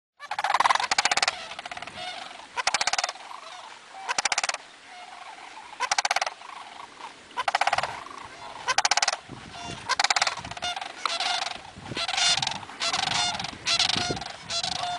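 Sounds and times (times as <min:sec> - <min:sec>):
cranes calling: 0:00.2 - 0:14.9.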